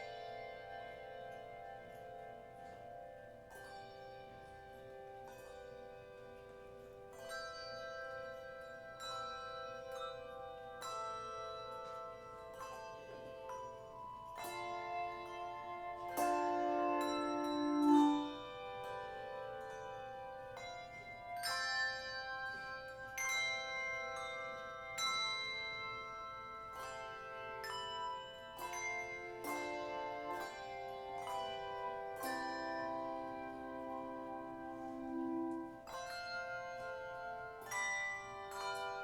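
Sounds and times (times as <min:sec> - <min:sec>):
handbell choir playing: 0:00.0 - 0:39.0.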